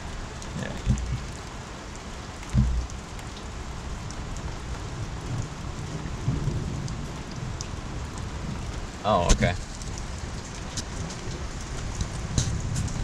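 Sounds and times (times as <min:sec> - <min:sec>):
rain drop ticks: 0:00.0 - 0:13.0
steady rain falling: 0:00.0 - 0:13.0.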